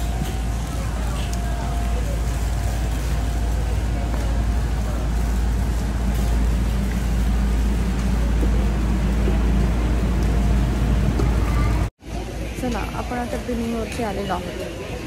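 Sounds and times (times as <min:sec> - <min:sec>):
shopping carts rolling on concrete: 0:00.0 - 0:15.0
store hubbub: 0:00.0 - 0:15.0.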